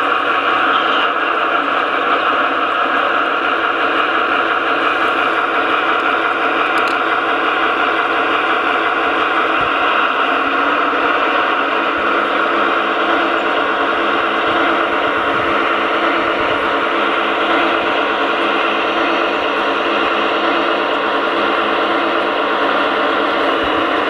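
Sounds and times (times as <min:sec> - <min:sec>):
diesel engine sound from small loudspeaker: 0:00.0 - 0:24.0.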